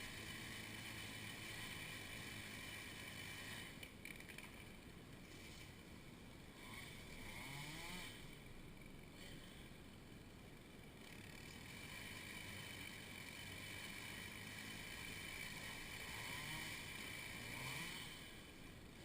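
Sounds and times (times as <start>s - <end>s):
faint engine drone: 0.0s - 19.0s.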